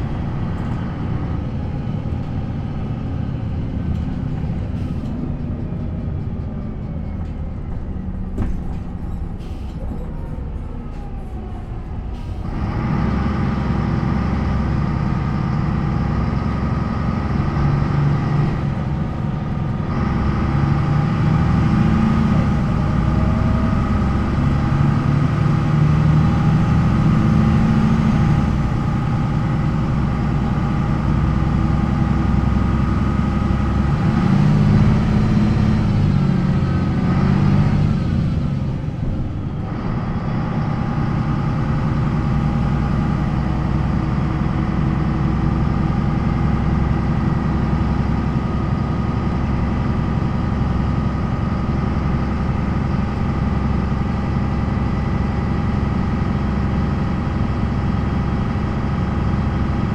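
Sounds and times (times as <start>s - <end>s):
bus diesel engine pulling away: 0.0s - 59.9s.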